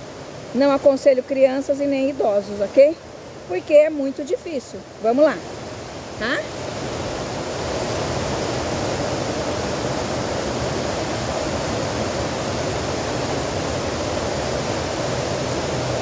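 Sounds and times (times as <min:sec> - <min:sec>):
whitewater rushing over boulders: 0:00.0 - 0:16.0.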